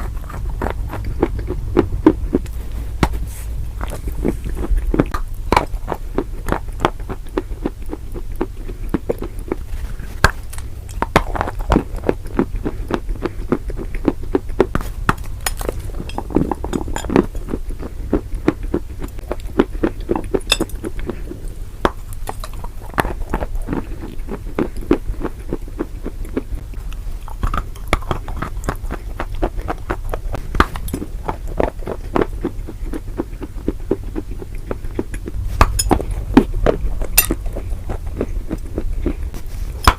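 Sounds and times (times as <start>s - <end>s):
chewing crunchy food: 0.0s - 39.9s
steady low hum: 0.0s - 39.9s.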